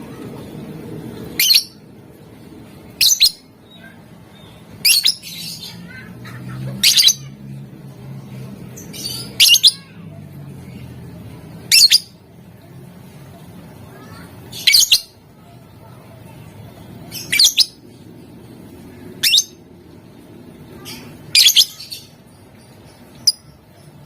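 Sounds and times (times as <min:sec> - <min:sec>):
steady low background noise: 0:00.0 - 0:24.0.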